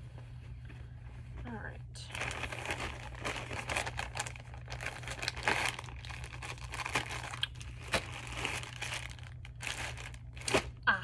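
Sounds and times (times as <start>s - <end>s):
plastic bag crinkling: 2.0s - 10.9s.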